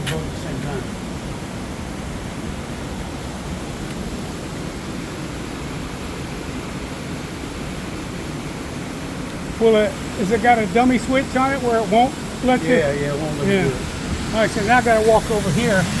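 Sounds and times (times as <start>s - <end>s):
water rushing through sluice gate: 0.0s - 16.0s.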